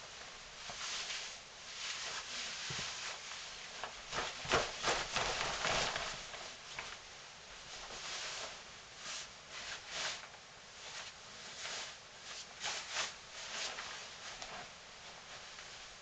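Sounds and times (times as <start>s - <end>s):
fabric rustling swishes: 0.0s - 16.0s
steady hiss: 0.0s - 16.0s.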